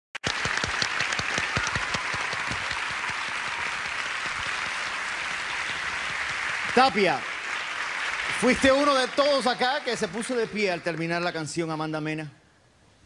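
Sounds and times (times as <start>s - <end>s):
audience applauding: 0.2s - 11.6s.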